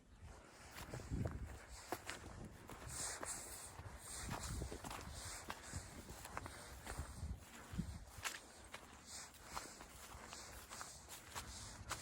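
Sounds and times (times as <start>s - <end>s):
footsteps walking through a field: 0.0s - 12.0s.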